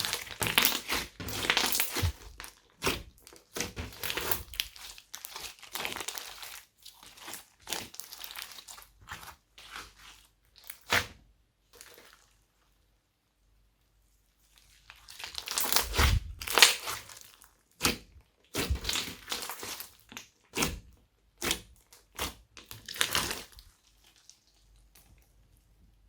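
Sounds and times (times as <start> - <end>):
slime squishing and popping: 0.0 - 11.2, 14.9 - 25.3.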